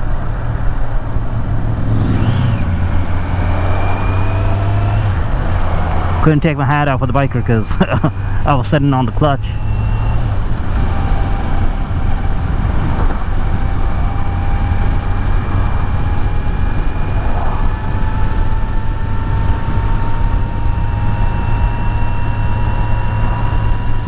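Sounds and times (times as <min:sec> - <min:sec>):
motorcycle engine running: 0:00.0 - 0:24.0
wind and road noise rumble: 0:00.0 - 0:24.0.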